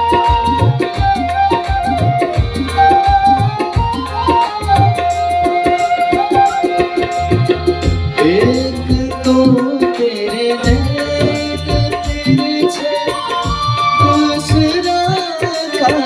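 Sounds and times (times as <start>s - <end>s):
gliding instrumental melody: 0.0s - 16.0s
tabla playing quick rhythm: 0.0s - 16.0s.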